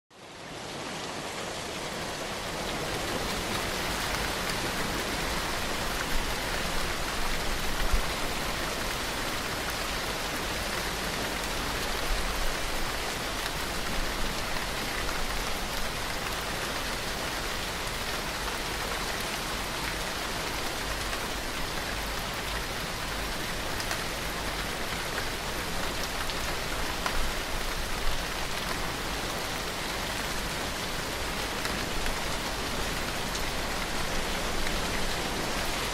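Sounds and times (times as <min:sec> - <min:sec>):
heavy rain: 0:00.1 - 0:35.9.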